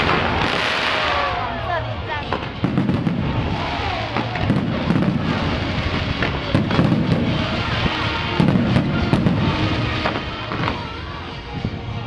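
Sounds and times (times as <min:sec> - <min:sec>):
fireworks bangs and crackling: 0:00.0 - 0:12.0
music playing: 0:00.0 - 0:12.0.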